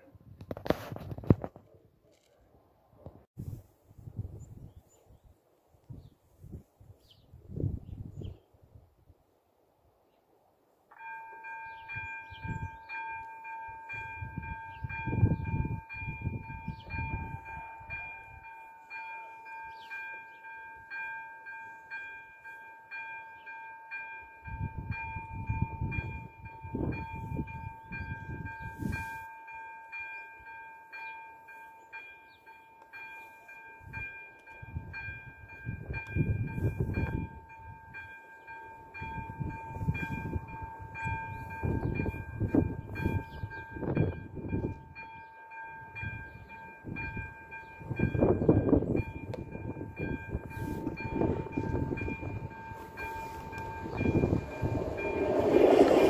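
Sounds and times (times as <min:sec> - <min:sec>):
level crossing warning bell: 0:10.9 - 0:56.0.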